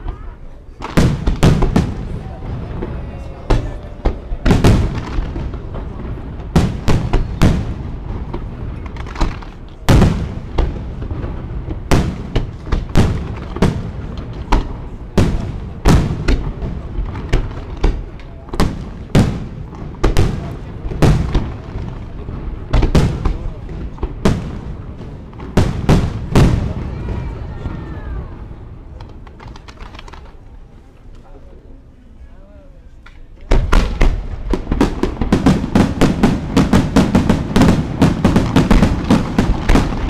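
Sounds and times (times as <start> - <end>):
firework rumble and crackle: 0.0 - 32.3, 32.9 - 40.0
firework shells booming: 0.8 - 30.4, 33.5 - 40.0.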